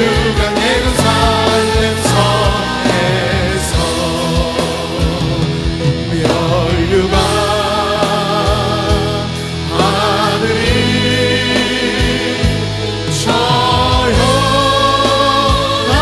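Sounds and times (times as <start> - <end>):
band accompaniment: 0.0 - 16.0
group singing praise song: 0.0 - 16.0.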